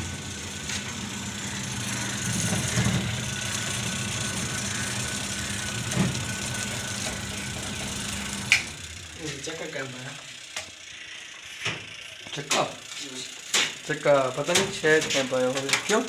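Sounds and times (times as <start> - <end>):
electric motor running: 0.0 - 16.0
low mains hum: 0.0 - 16.0.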